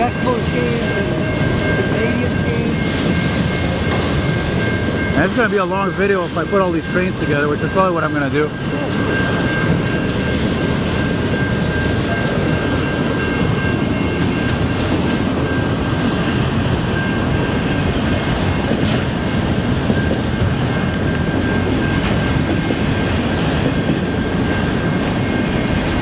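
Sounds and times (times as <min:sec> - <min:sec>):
roar of steel wheels on rail: 0:00.0 - 0:26.0.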